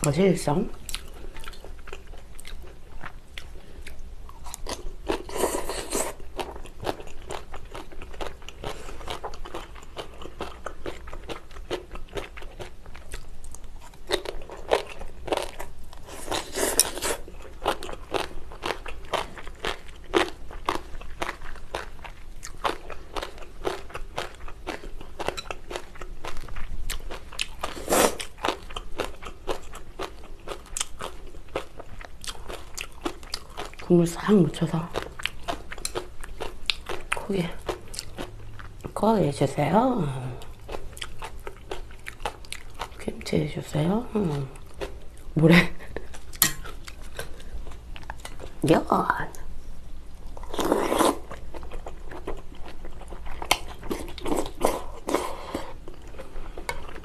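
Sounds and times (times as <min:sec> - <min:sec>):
chewing and crunching food: 0:00.1 - 0:49.4, 0:50.2 - 0:57.0.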